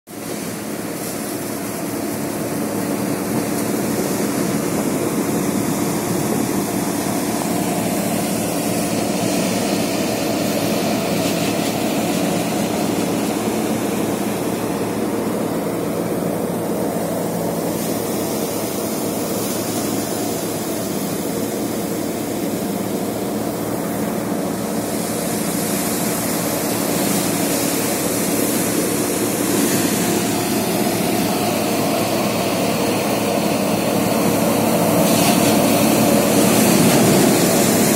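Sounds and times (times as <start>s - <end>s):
threshing machine droning: 0.1s - 37.9s.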